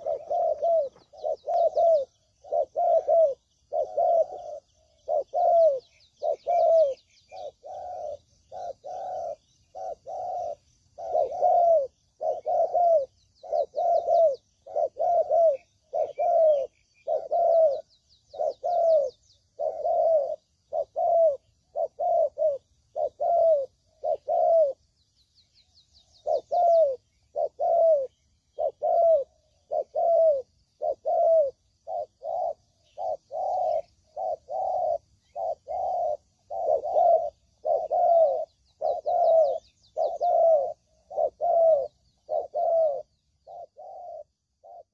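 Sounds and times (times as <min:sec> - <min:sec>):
dove cooing: 0:00.0 - 0:24.9, 0:25.7 - 0:44.9
small birds twittering: 0:00.0 - 0:44.9.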